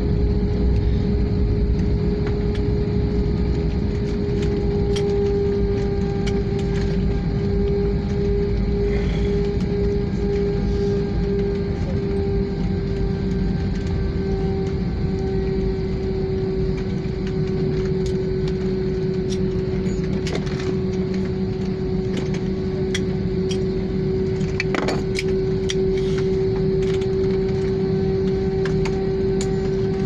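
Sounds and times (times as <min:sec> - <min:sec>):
jet engine hum in cabin: 0:00.0 - 0:30.0.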